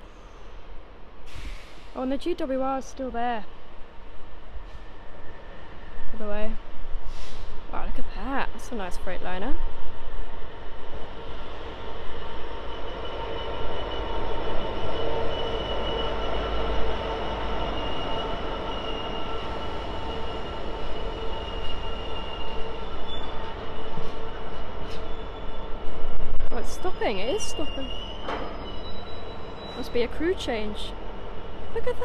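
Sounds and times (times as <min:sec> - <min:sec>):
high train squealing: 0:00.0 - 0:02.4, 0:04.6 - 0:07.7, 0:10.4 - 0:32.0
freight train rumbling: 0:00.0 - 0:32.0.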